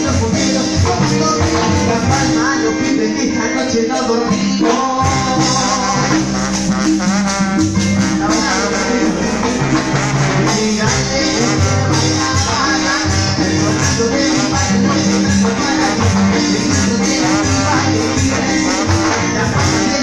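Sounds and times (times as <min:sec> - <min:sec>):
held bass notes: 0:00.0 - 0:20.0
keyboard melody: 0:00.0 - 0:20.0
percussion: 0:00.0 - 0:20.0.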